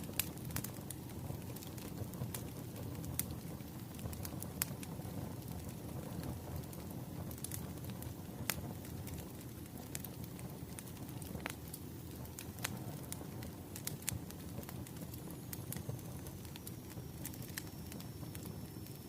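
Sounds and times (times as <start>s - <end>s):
fire rumbling: 0.0s - 19.0s
logs crackling and popping: 0.0s - 19.0s.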